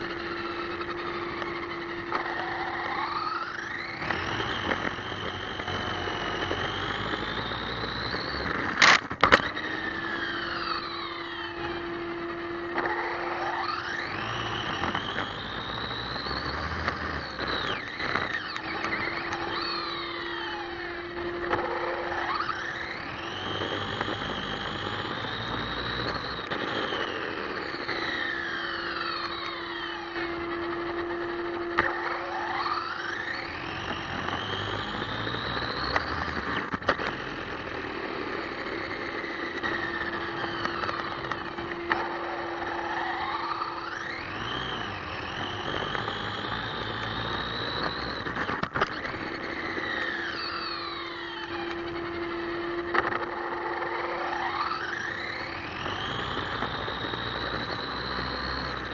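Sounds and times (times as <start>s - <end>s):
electric motor whining: 0.0s - 58.9s.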